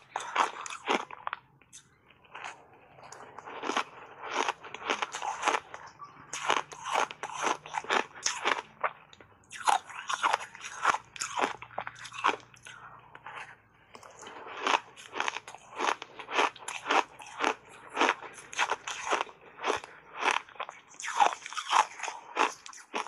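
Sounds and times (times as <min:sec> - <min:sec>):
ice crunching in mouth: 0:00.0 - 0:08.9, 0:09.5 - 0:12.8, 0:14.0 - 0:23.0.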